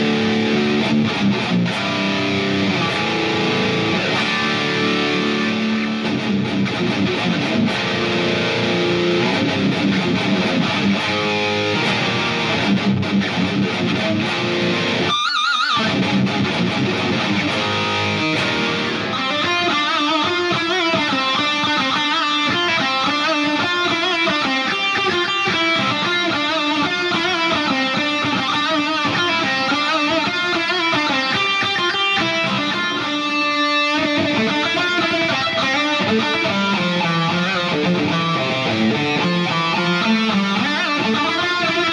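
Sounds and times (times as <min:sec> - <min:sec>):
distorted electric guitar playing metal: 0:00.0 - 0:41.9.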